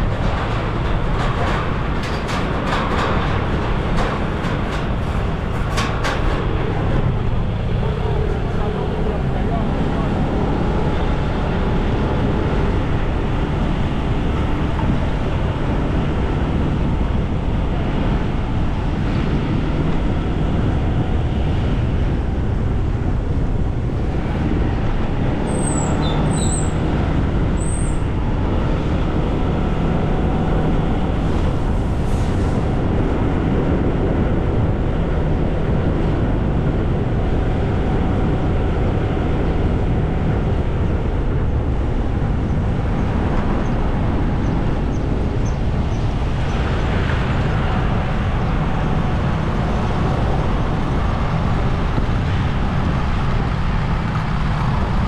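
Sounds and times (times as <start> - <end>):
vehicle rumbling on road: 0.0 - 55.0.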